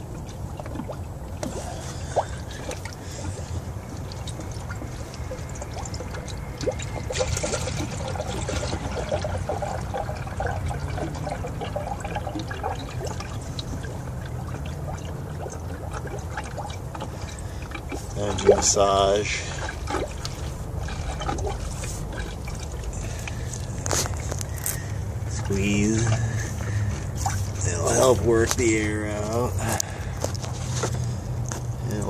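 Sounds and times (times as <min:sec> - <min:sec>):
coolant pouring into funnel: 0:00.0 - 0:32.0
steady low rumble: 0:00.0 - 0:32.0.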